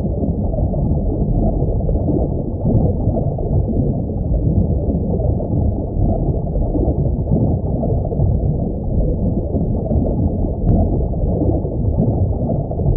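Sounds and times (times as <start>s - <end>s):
underwater rumbling water: 0.0s - 12.9s.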